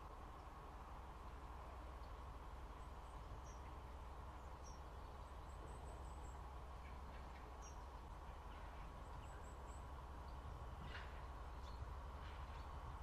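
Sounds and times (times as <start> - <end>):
small birds chirping: 1.7 - 13.0.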